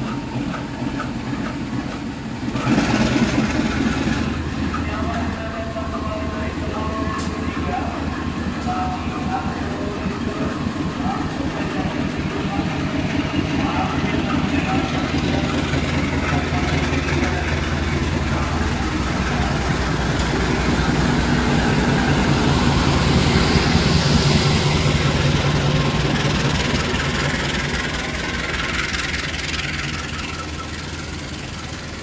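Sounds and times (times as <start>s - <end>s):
locomotive engine drone: 0.0s - 32.0s.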